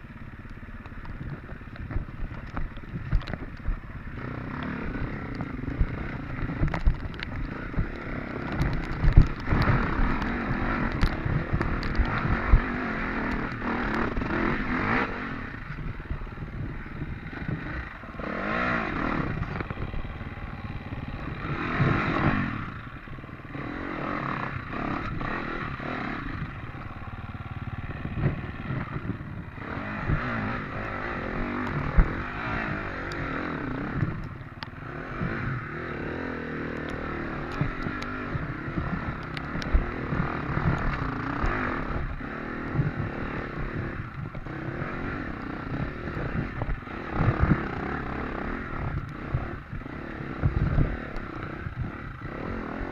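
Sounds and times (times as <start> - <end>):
dirt bike engine revving: 3.2 - 52.9.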